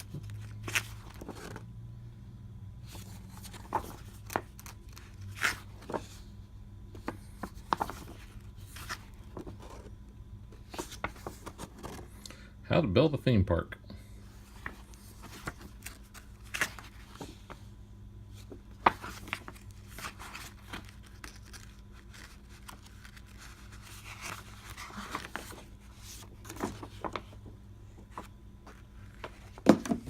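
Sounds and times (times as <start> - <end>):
paper and cardboard rustling: 0.0 - 1.7, 2.8 - 6.3, 7.0 - 10.0, 10.6 - 12.2, 14.3 - 17.7, 18.3 - 30.0
steady low hum: 0.0 - 30.0.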